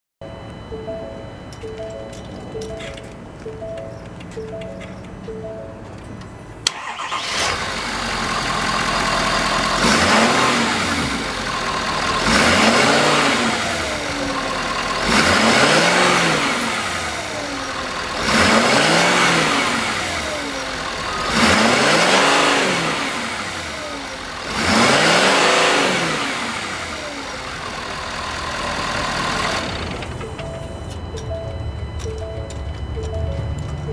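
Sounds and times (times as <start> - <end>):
pickup engine starting: 6.6 - 33.9
engine idling and revving: 6.7 - 33.9.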